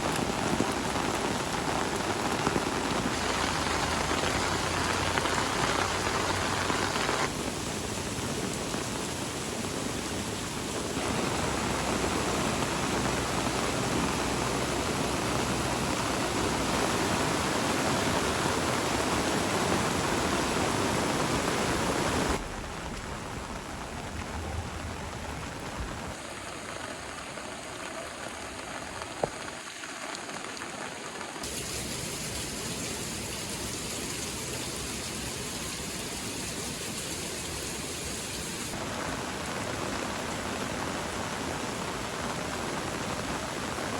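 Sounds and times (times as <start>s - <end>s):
heavy rain and rushing floodwater: 0.0s - 43.9s.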